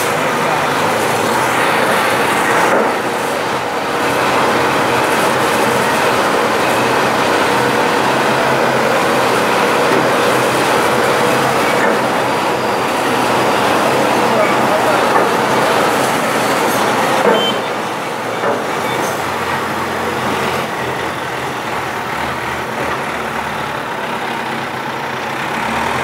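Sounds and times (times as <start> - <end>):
crane engine running: 0.0 - 26.0.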